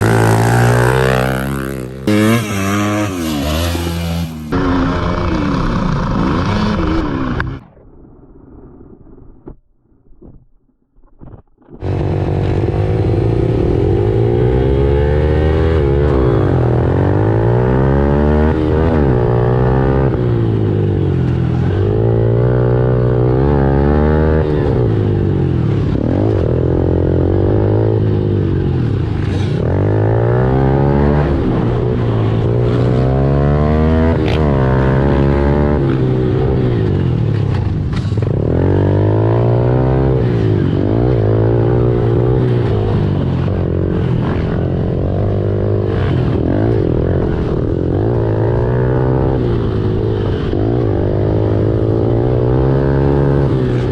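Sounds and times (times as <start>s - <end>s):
motorbike engine revving: 0.0s - 7.6s, 11.8s - 53.9s.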